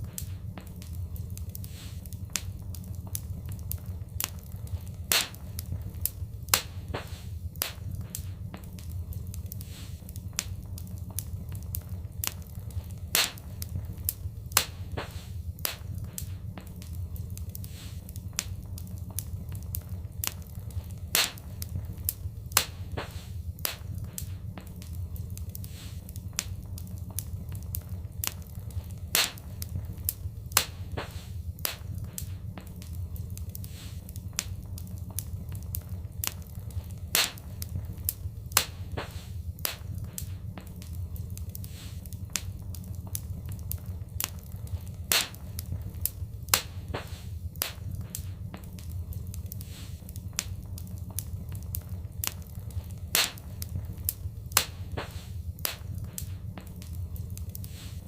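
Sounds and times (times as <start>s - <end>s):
low rumble of fire: 0.0s - 58.0s
wood fire popping and snapping: 0.0s - 58.0s.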